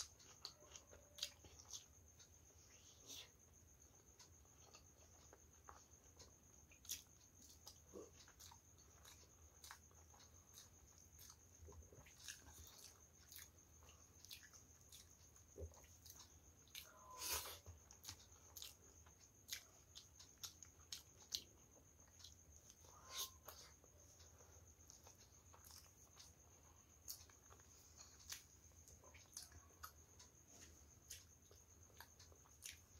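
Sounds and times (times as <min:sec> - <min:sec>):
chewing: 0:00.0 - 0:32.9.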